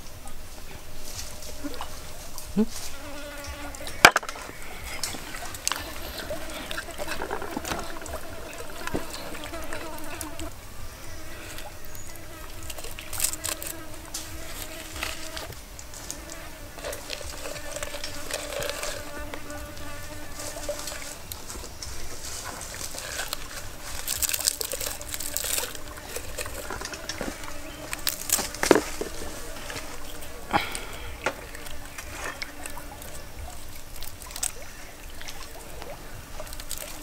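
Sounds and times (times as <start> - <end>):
hands rustling stalks: 0.0 - 10.5, 11.4 - 34.6, 35.8 - 37.0
crackly rustling: 0.0 - 37.0
insect buzzing: 1.1 - 33.4.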